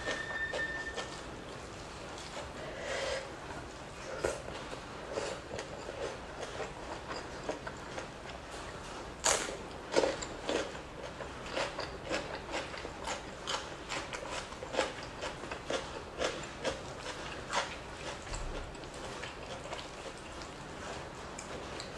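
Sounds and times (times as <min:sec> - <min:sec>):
wet chewing sounds: 0:00.0 - 0:21.9.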